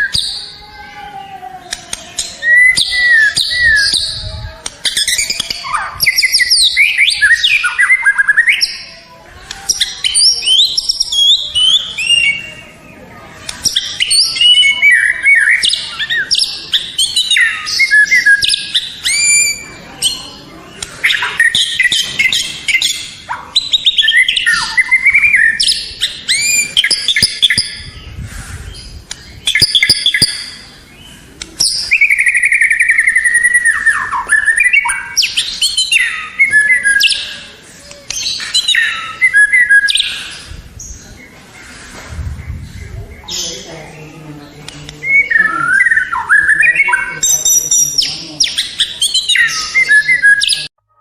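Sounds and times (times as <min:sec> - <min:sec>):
songbird singing whistles and trills: 0:01.6 - 0:09.0, 0:09.6 - 0:12.7, 0:13.6 - 0:20.4, 0:21.0 - 0:41.1, 0:44.8 - 0:51.0.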